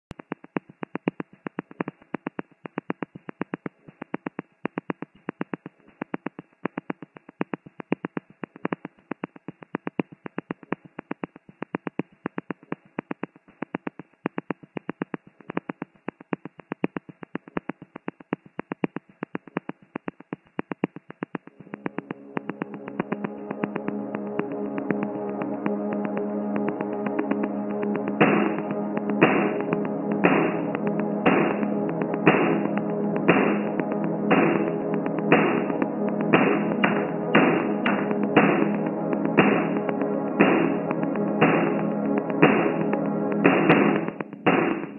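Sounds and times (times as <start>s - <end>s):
rhythmic electronic clicking: 0.1s - 44.9s.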